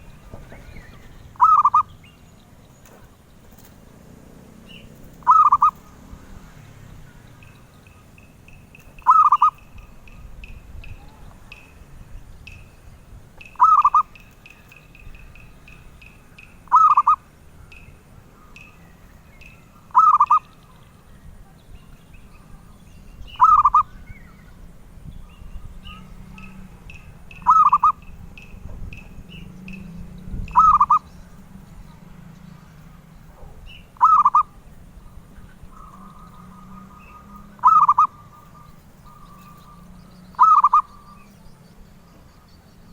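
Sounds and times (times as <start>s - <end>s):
dove cooing: 0.0s - 2.1s, 2.9s - 11.7s, 13.4s - 21.1s, 23.3s - 24.6s, 25.3s - 41.5s
bird trill: 0.0s - 42.9s.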